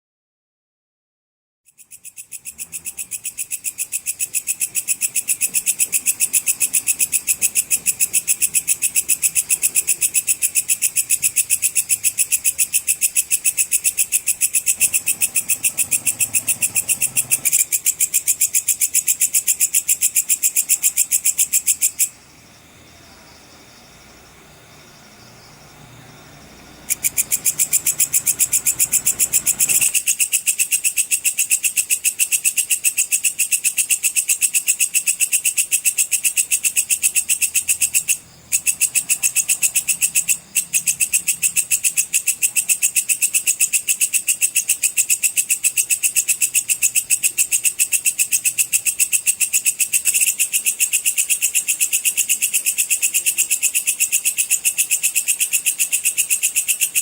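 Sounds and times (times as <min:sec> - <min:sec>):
katydid high-pitched trill: 0:01.8 - 0:22.2, 0:26.8 - 0:57.0.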